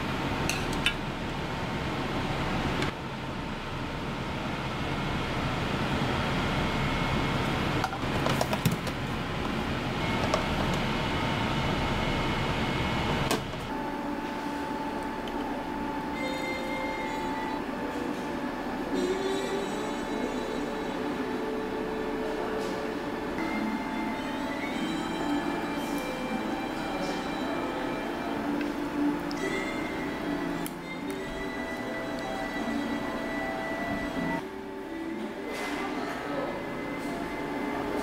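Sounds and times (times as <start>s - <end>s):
light hum with steady tones: 0.0s - 38.0s.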